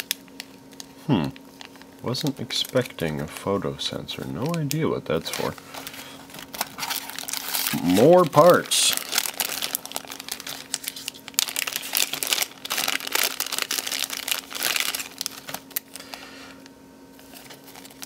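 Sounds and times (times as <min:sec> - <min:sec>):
plastic bag crinkling: 0:00.0 - 0:16.2, 0:17.2 - 0:18.0.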